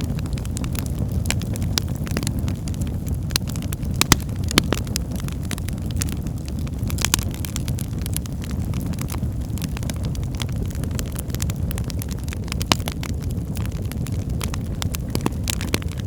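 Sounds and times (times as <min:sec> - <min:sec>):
crackles and pops of burning wood: 0:00.0 - 0:16.0
low rumble of flames: 0:00.0 - 0:16.0.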